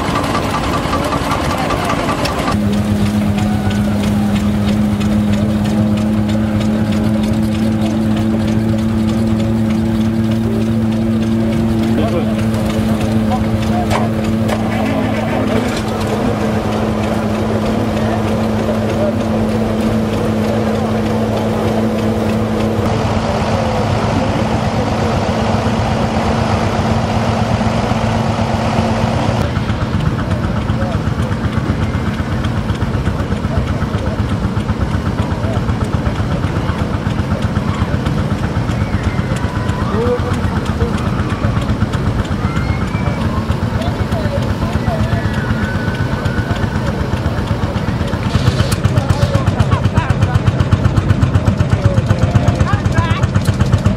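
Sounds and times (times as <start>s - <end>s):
stationary engine knocking: 0.0s - 53.9s
threshing machine humming: 0.0s - 53.9s.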